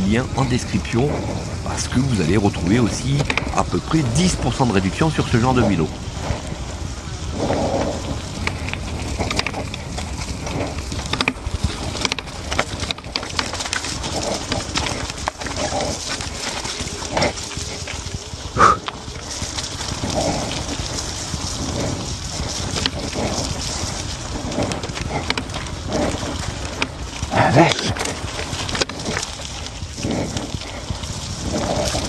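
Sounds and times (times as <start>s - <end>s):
tyre and wind noise: 0.0s - 32.0s
bike rattling clicks: 2.2s - 32.0s.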